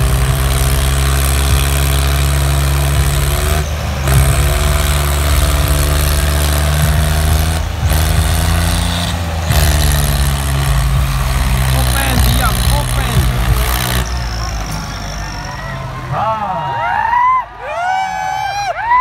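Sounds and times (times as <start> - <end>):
tractor diesel engine running hard: 0.0 - 17.6.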